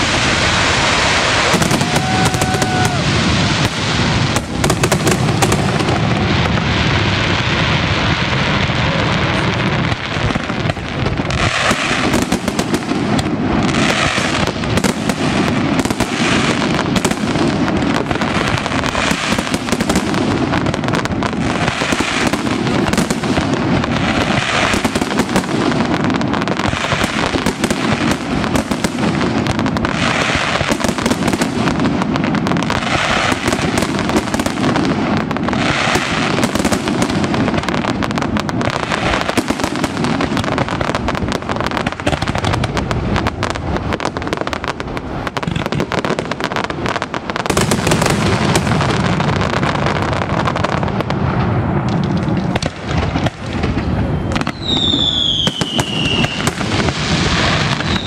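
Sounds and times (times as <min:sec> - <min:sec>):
fireworks bangs and crackle: 0:00.0 - 0:58.0.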